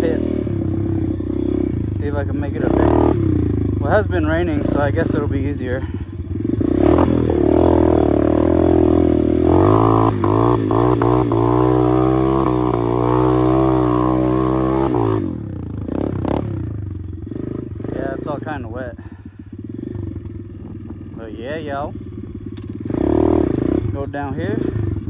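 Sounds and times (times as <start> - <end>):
engine clatters: 0.0 - 25.0
motorbike engine pulling hard: 0.0 - 25.0.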